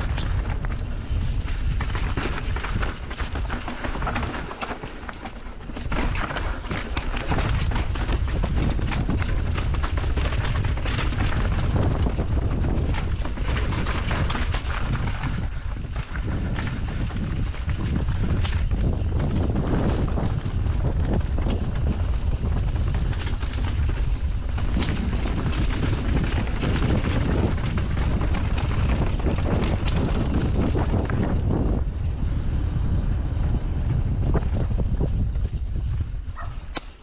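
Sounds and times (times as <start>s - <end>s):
bike rattling over rough trail: 0.0s - 37.0s
wind buffeting microphone: 0.0s - 37.0s.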